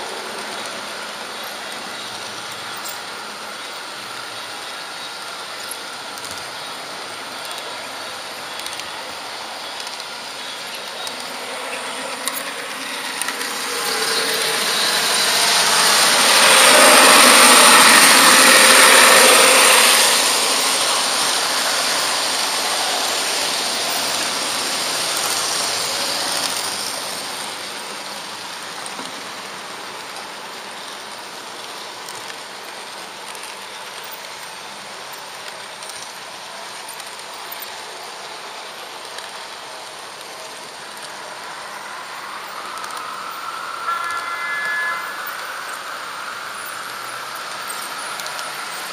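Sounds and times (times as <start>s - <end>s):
model train rattling: 0.0s - 48.9s.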